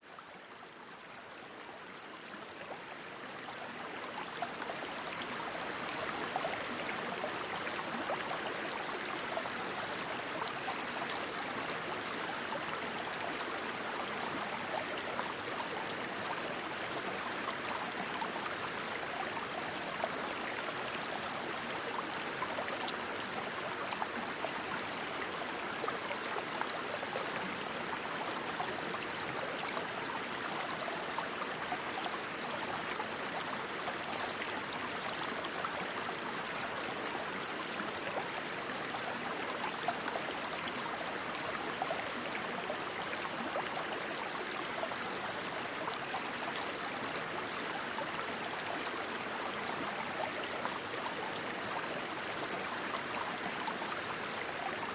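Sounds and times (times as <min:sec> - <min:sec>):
rushing stream water: 0:00.0 - 0:54.9.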